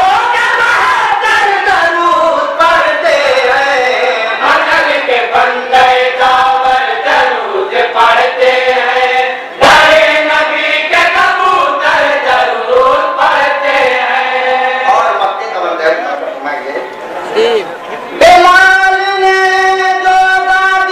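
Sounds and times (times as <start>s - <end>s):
men chanting in unison: 0.0s - 15.4s, 17.3s - 20.9s.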